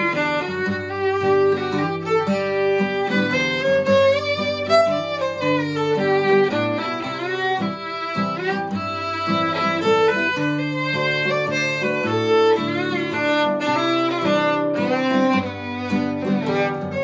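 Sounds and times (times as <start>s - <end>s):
bowed fiddle melody: 0.0s - 17.0s
strummed acoustic guitar: 0.0s - 17.0s.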